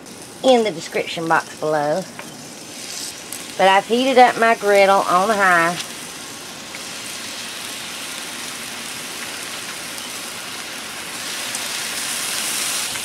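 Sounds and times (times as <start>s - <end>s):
chicken sizzling on griddle: 0.0s - 13.0s.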